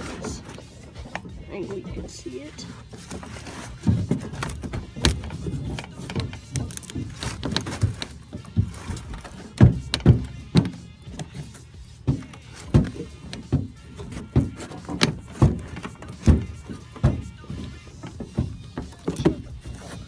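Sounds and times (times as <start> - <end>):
thuds and knocks: 3.0 - 20.0.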